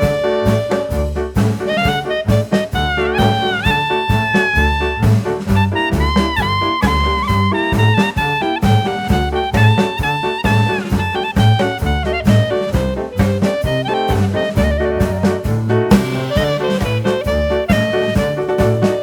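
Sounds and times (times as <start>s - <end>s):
live band music: 0.0s - 19.0s
shrill lead melody: 0.0s - 19.0s.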